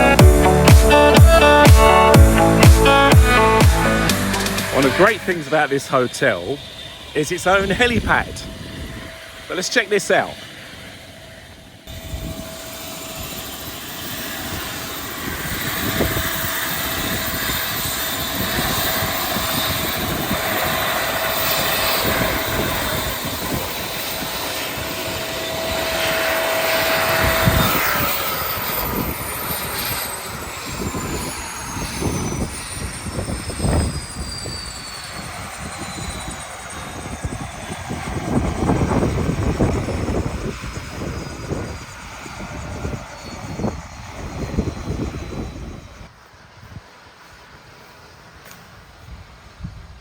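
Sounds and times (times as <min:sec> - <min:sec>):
helicopter engine and rotor: 0:00.0 - 0:46.1.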